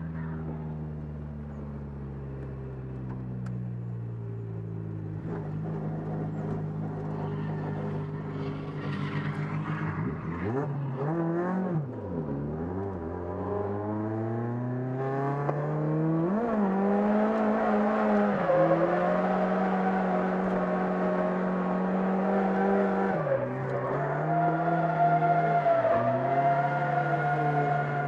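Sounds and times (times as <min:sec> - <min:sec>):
car engine revving: 0:05.0 - 0:28.0.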